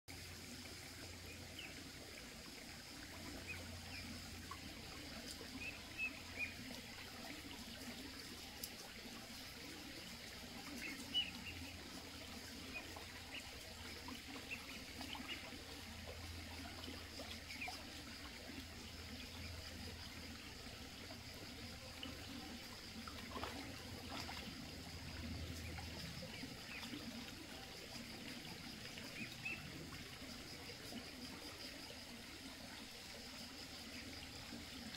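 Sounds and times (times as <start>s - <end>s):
water trickling: 0.1s - 34.9s.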